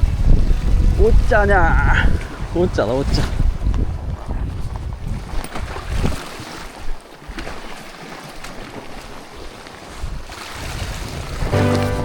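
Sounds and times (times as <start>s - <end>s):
wind buffeting microphone: 0.0s - 7.8s, 8.5s - 12.0s
sea waves washing: 0.0s - 12.0s.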